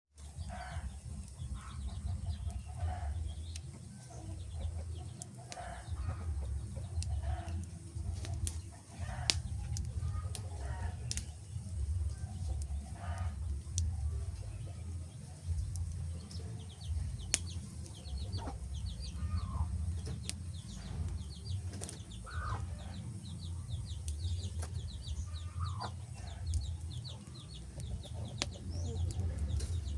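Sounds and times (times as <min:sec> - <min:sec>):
wood fire crackling and popping: 0:00.5 - 0:29.9
steady low rumble: 0:05.8 - 0:29.9.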